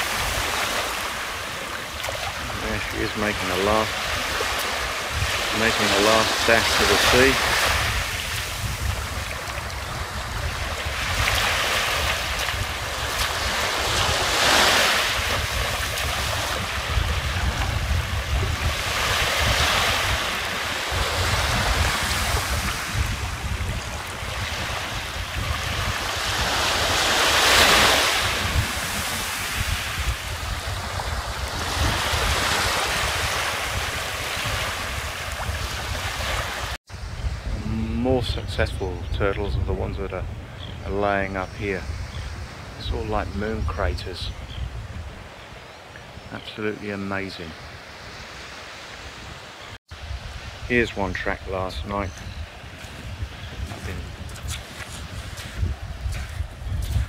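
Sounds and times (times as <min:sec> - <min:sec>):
small waves washing onto beach: 0:00.0 - 0:39.0, 0:40.3 - 0:57.0
wind rumbling on microphone: 0:00.0 - 0:46.5, 0:47.1 - 0:57.0.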